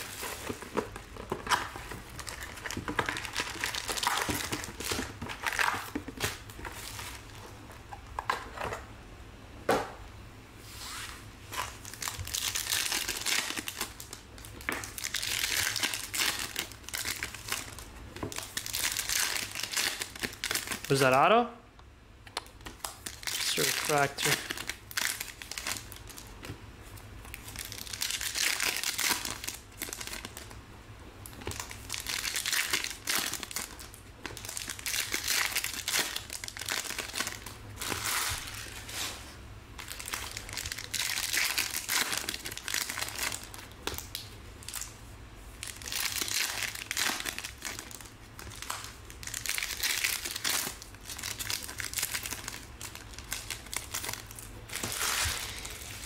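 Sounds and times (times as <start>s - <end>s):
foil wrappers crinkling: 0.0s - 7.4s, 11.6s - 21.3s, 22.4s - 30.6s, 31.2s - 39.1s, 39.8s - 56.0s.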